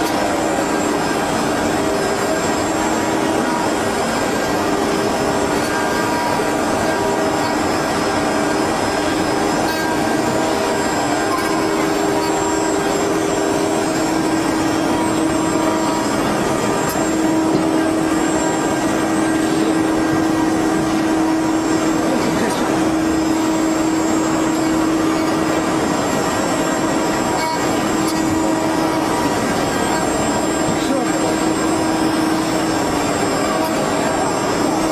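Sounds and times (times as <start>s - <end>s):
spindle motors whining: 0.0s - 34.9s.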